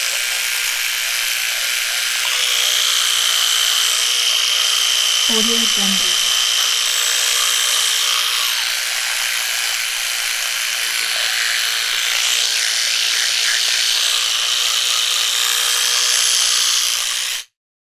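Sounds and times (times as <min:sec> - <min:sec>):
small electric motor whirring: 0:00.0 - 0:17.5.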